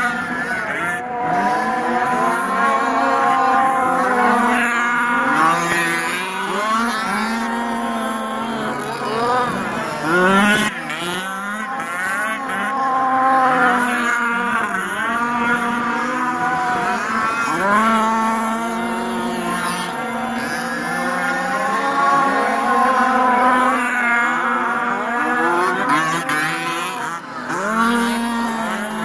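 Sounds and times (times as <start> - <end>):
rc car engines buzzing: 0.0 - 29.0.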